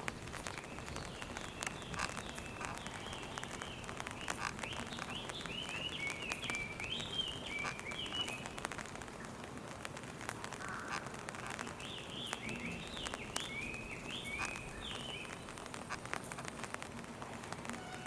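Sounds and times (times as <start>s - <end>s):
raindrops tapping: 0.0s - 18.0s.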